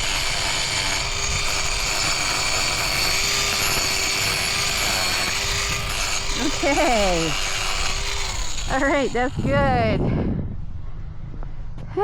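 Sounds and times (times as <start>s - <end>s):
angle grinder grinding hoof: 0.0s - 10.1s.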